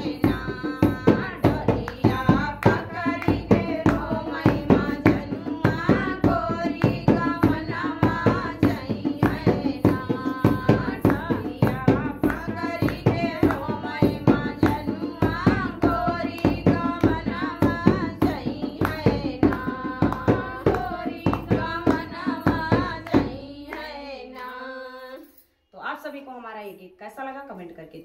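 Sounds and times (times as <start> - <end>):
hands clapping in rhythm: 0.0 - 24.6
women singing folk song: 0.0 - 25.4.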